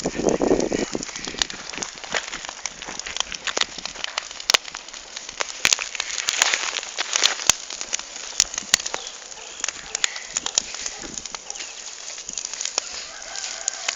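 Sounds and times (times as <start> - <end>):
campfire crackling and popping: 0.0 - 13.9.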